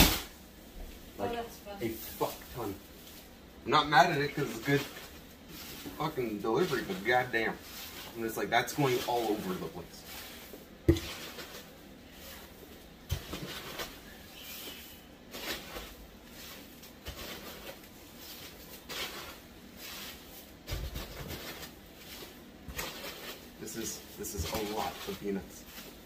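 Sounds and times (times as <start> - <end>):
plastic bag rustling: 1.0 - 26.0
packing peanuts spilling: 3.8 - 26.0.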